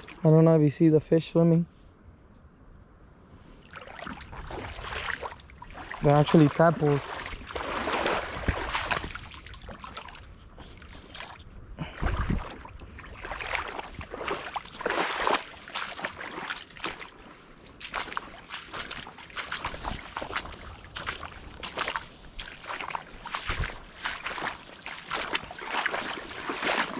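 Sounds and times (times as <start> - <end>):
footsteps splashing in water: 0.0 - 0.3, 3.6 - 26.9.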